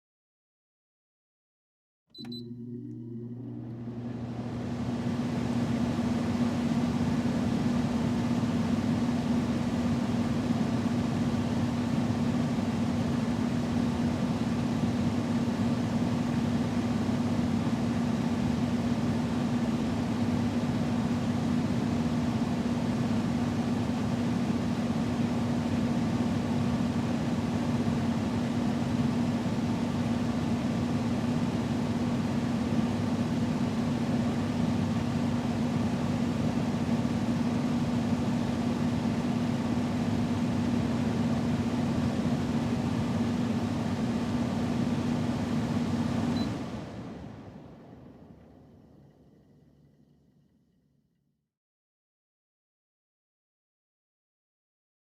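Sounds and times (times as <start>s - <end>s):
air conditioner humming: 2.2s - 50.4s.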